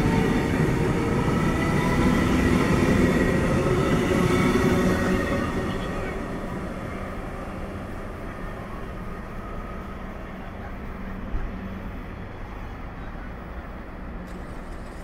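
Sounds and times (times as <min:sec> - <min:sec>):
road traffic: 0:00.0 - 0:15.0
train rumbling: 0:00.0 - 0:15.0.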